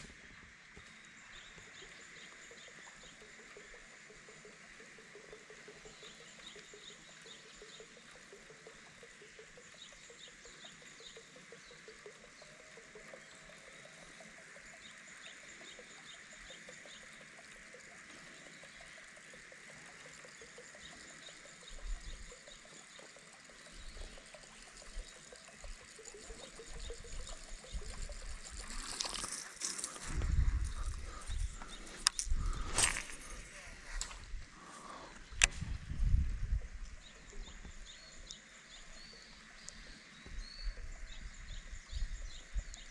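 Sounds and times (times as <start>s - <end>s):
birds chirping: 0.8s - 42.9s.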